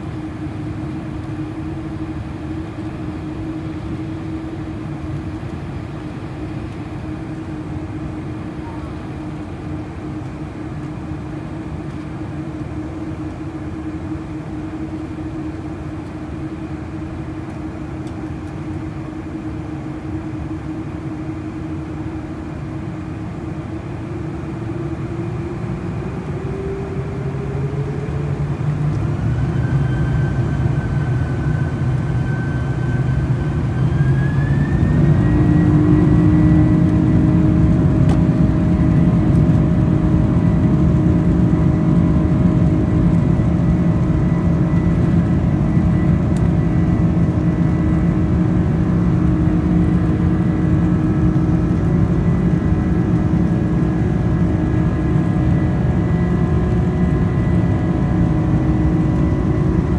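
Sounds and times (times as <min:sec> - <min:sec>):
jet engines humming and spooling up: 0:00.0 - 0:59.9.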